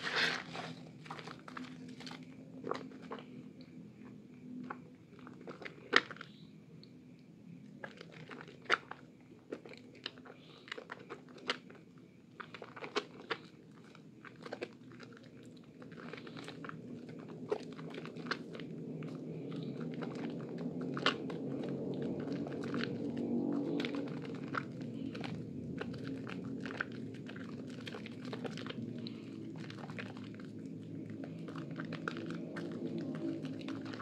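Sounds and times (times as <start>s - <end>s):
wet squishing of soap: 0.0s - 34.0s.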